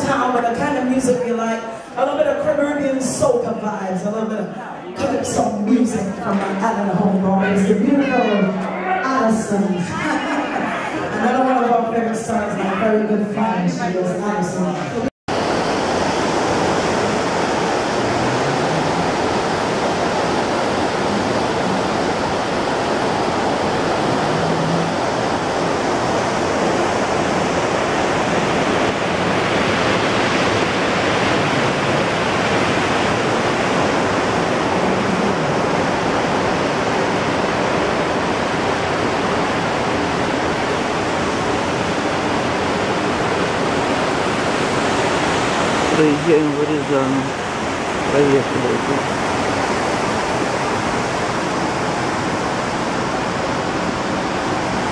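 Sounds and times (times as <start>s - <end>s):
water rushing along hull: 0.0s - 54.9s.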